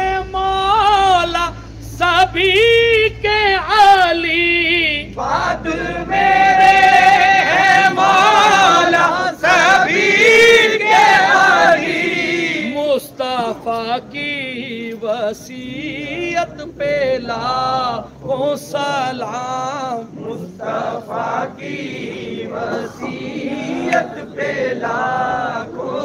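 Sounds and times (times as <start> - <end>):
men chanting in chorus: 4.0 - 26.0.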